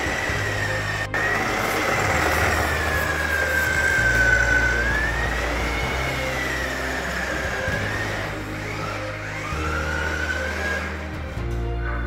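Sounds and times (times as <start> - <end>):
toy car electric motor whining: 0.0 - 12.0.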